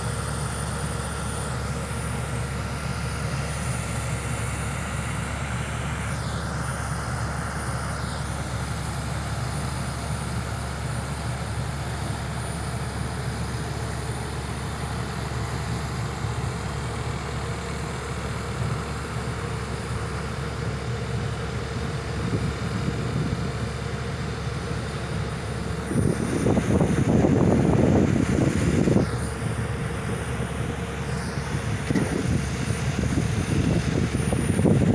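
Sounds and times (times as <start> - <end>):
diesel machinery droning: 0.0 - 34.9.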